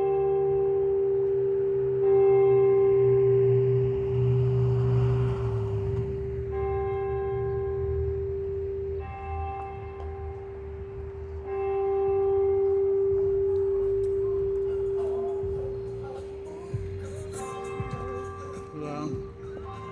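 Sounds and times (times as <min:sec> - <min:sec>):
church bell tolling: 0:00.0 - 0:19.9.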